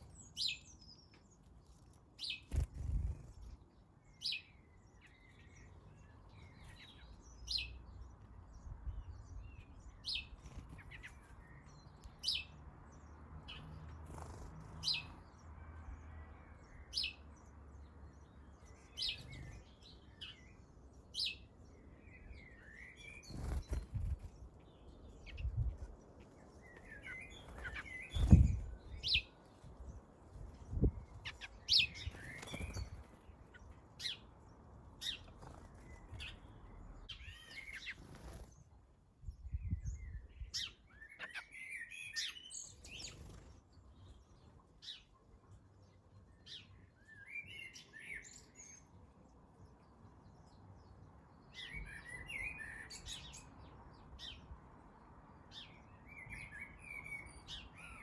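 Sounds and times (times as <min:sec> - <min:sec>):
garden birds chirping: 0:00.0 - 0:58.0.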